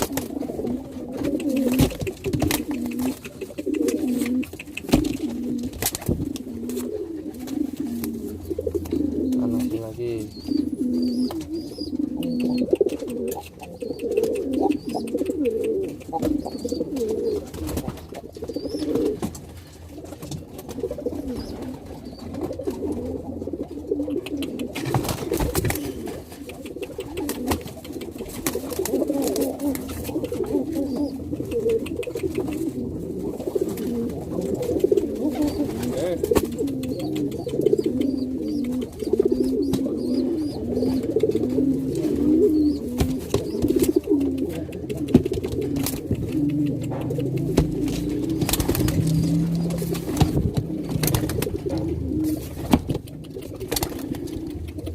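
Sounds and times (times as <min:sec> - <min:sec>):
pigeon cooing: 0:00.0 - 0:54.9.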